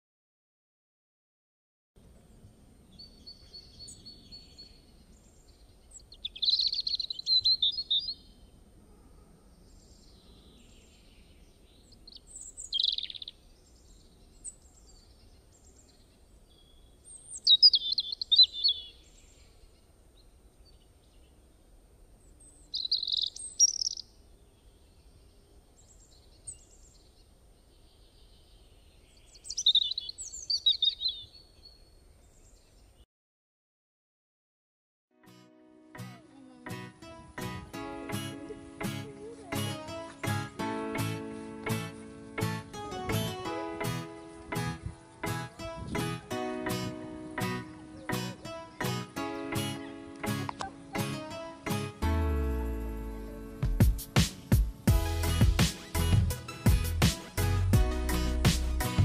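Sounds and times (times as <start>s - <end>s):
faint background hiss: 2.0s - 33.0s, 35.6s - 57.5s
songbird chirping: 2.0s - 33.1s, 36.0s - 59.0s.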